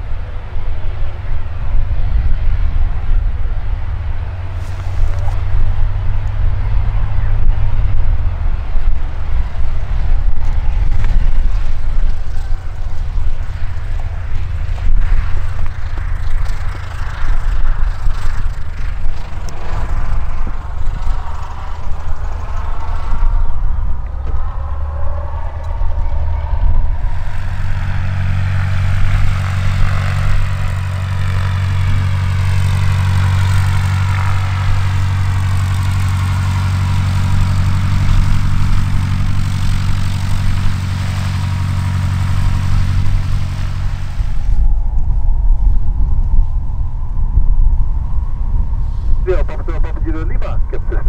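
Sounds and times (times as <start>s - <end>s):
small plane engine and propeller: 0.0s - 51.0s.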